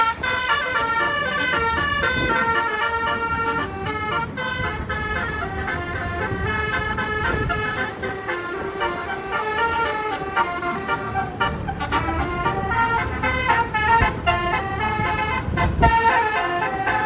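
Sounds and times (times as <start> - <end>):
bus horn playing a melody: 0.0 - 17.0.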